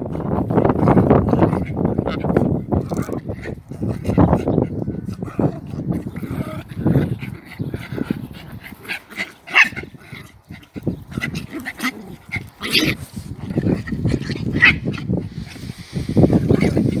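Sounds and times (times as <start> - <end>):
dogs tussling: 0.1 - 17.0.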